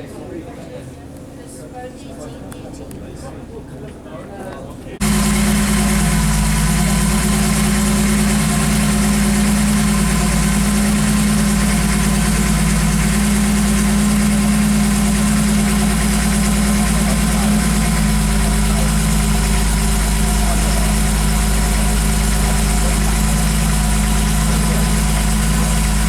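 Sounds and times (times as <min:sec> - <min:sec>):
car engine idling: 0:04.7 - 0:26.0.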